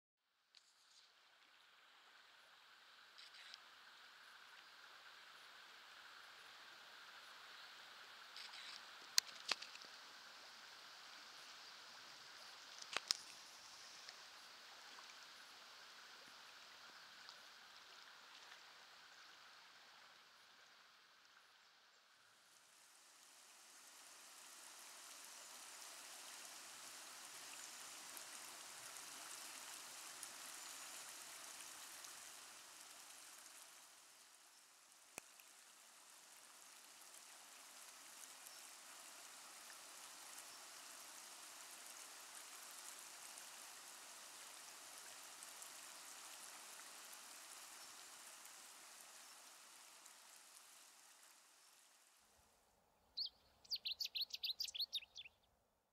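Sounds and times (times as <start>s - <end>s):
river water flowing: 1.0s - 52.5s.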